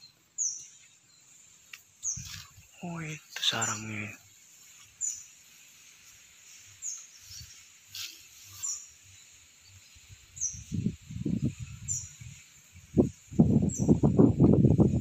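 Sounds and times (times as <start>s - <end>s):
small bird chirping: 0.0s - 14.1s.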